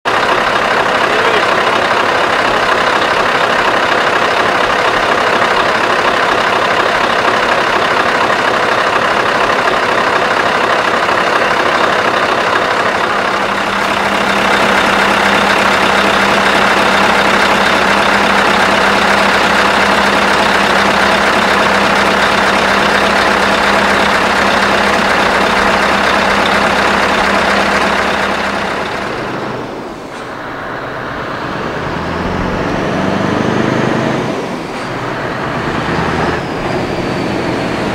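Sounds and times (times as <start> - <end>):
truck engine running loud: 0.0 - 37.9.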